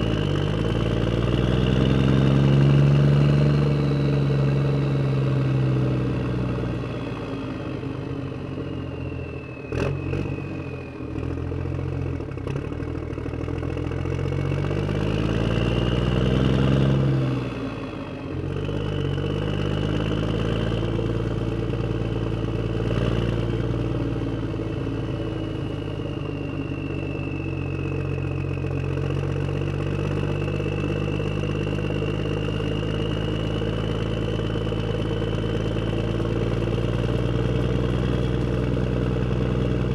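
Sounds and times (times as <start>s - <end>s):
engine running and revving: 0.0s - 39.9s.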